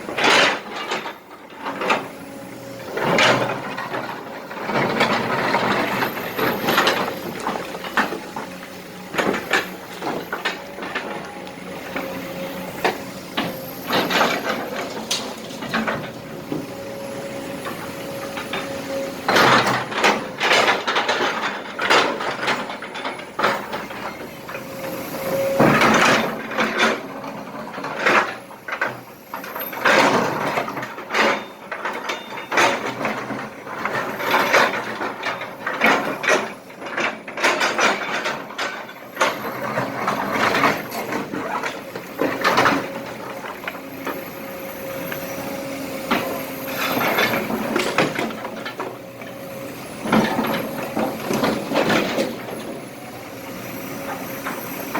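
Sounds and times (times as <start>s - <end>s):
excavator bucket clattering rocks: 0.0s - 54.9s
excavator engine running: 0.0s - 54.9s.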